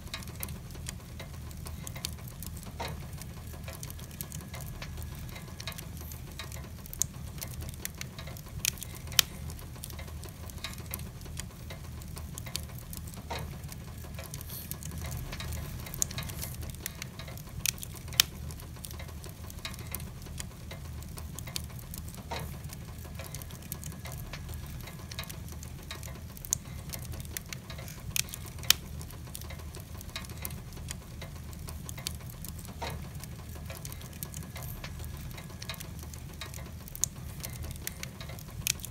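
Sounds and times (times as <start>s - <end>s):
low fire rumble: 0.0s - 38.9s
wood fire crackling and popping: 0.0s - 38.9s.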